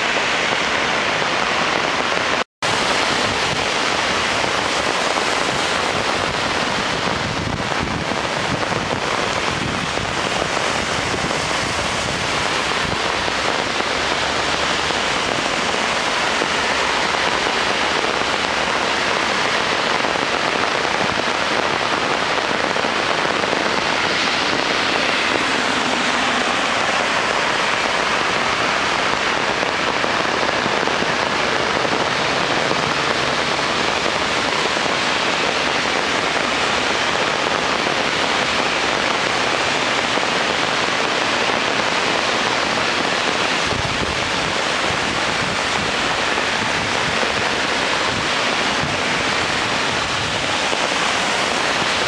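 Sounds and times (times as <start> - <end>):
heavy rain hissing: 0.0 - 52.0
traffic on wet road: 0.0 - 52.0.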